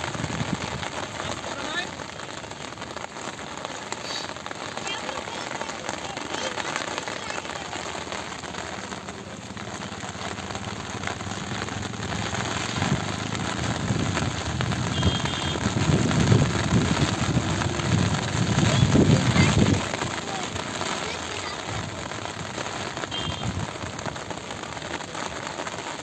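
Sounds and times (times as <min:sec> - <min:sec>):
rain falling on water: 0:00.0 - 0:26.0.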